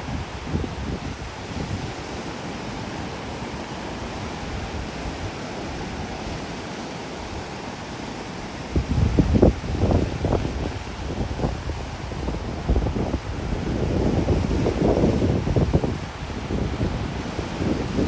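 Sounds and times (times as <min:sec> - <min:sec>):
wind rumble on microphone: 0:00.0 - 0:06.5, 0:08.6 - 0:18.0
waves washing onto beach: 0:00.0 - 0:18.0.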